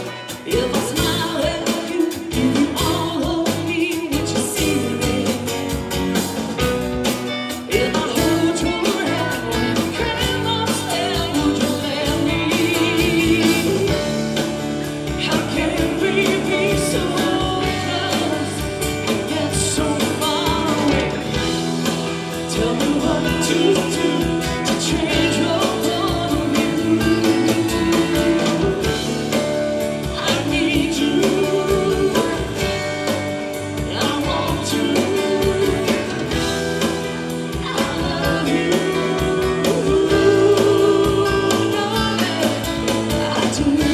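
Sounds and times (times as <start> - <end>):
live country band playing: 0.0 - 43.9
woman singing lead: 0.0 - 43.9.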